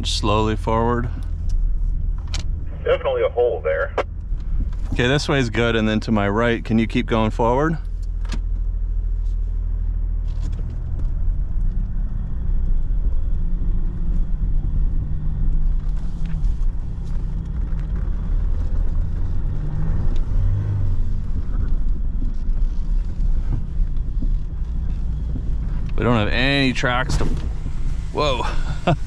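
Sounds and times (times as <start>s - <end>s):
diesel engine running low revs: 0.0s - 29.0s.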